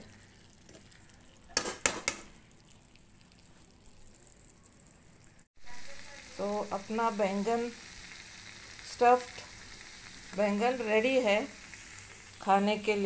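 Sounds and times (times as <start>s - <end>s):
faint food sizzle: 0.0s - 13.0s.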